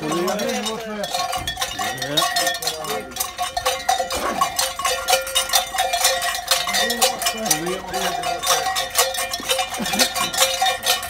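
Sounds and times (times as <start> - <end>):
metal cowbells clanking: 0.0 - 11.0.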